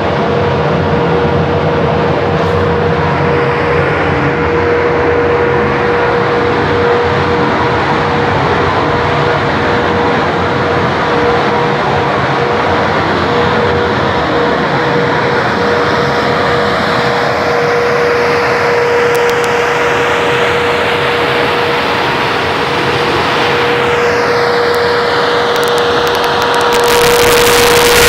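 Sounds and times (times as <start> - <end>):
industrial fan rushing air: 0.0 - 28.0.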